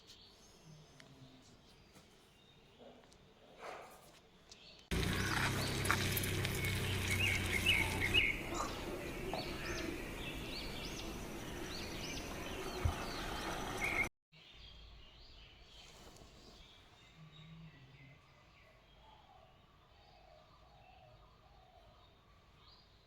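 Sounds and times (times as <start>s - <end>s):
birds chirping: 0.0s - 22.9s
outdoor background noise: 0.0s - 23.0s.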